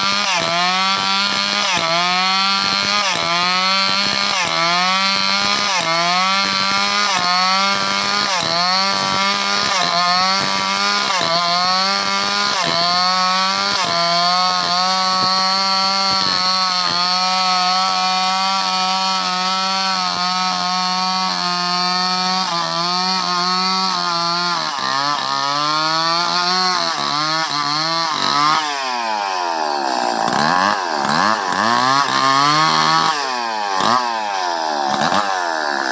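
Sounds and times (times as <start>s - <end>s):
chainsaw cutting through timber: 0.0s - 35.9s.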